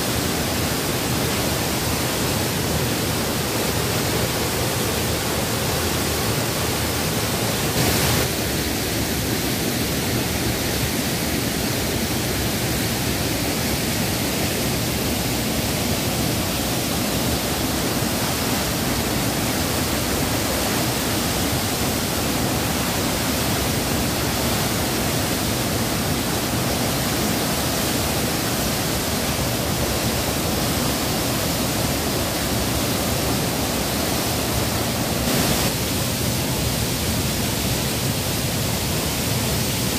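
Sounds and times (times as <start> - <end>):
waterfall rushing into pool: 0.0 - 39.9.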